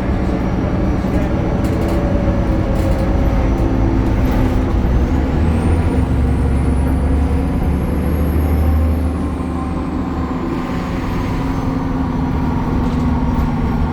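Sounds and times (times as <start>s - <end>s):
bus engine drone: 0.0s - 13.9s.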